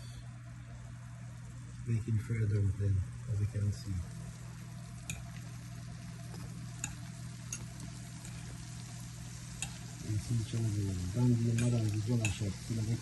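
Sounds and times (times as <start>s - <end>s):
dumplings sizzling in oil: 0.0s - 13.0s
low hum: 0.0s - 13.0s.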